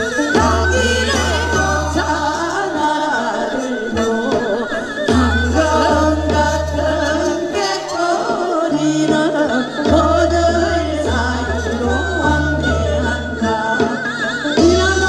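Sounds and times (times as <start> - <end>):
instrumental accompaniment with deep bass: 0.0 - 15.0
women singing folk songs: 0.0 - 15.0.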